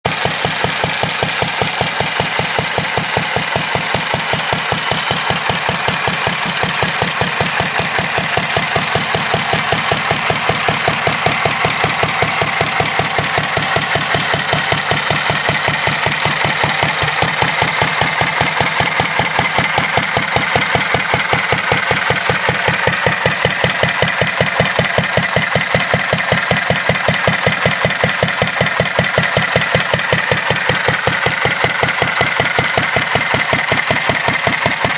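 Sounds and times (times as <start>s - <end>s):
stationary engine idling: 0.1s - 34.9s.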